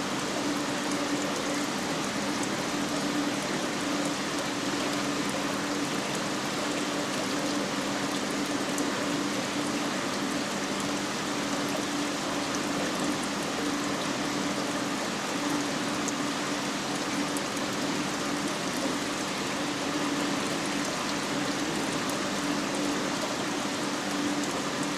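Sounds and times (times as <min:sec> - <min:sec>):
low pump hum: 0:00.0 - 0:24.9
rushing water: 0:00.0 - 0:24.9.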